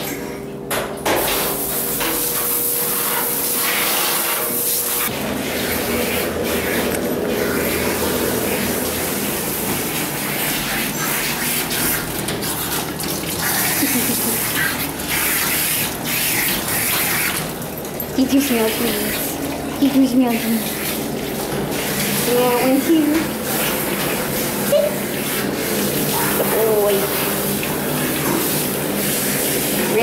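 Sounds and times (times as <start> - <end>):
water spraying from hose: 1.3 - 30.0.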